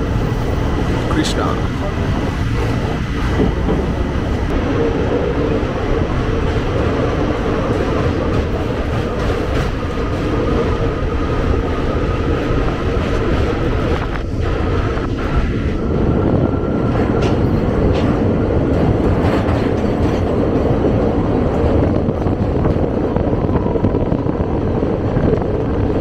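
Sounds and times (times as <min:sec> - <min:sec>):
train rumbling across a steel bridge: 0:00.0 - 0:26.0.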